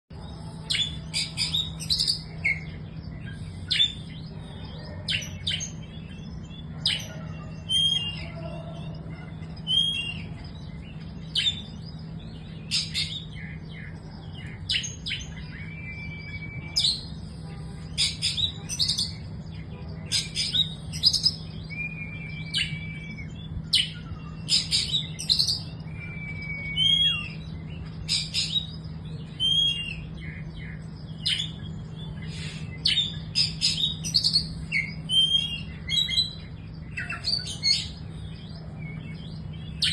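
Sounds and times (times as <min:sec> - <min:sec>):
bird singing chirps and whistles: 0:00.7 - 0:04.4, 0:05.1 - 0:17.2, 0:20.1 - 0:39.9.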